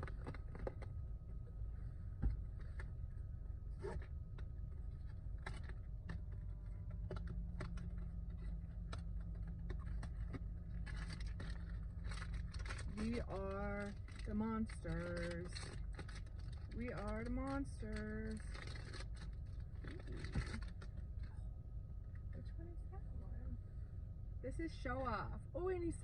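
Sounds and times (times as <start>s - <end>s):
low hum: 0.0s - 26.0s
low steady tone: 0.0s - 26.0s.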